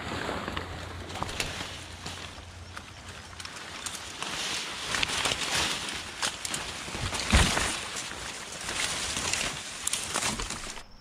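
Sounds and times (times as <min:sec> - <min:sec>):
brush swishing and crackling: 0:00.0 - 0:10.9.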